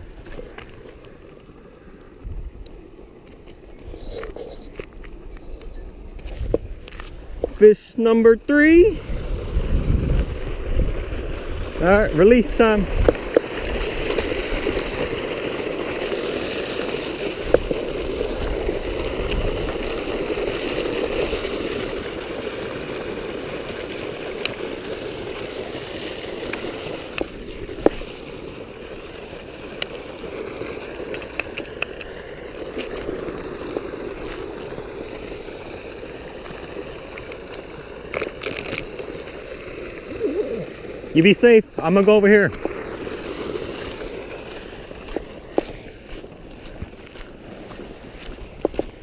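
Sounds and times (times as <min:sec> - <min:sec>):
water gushing from a pipe: 0:06.4 - 0:49.0.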